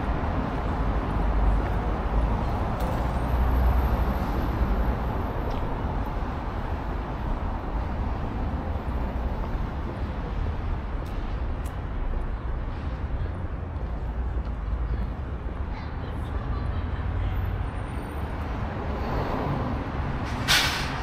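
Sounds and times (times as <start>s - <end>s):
city street traffic rumble: 0.0s - 21.0s.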